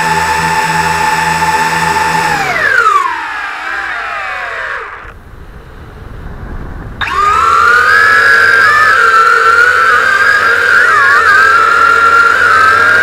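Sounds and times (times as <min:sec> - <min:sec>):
quadcopter motors whining: 0:00.0 - 0:05.8, 0:07.0 - 0:13.0.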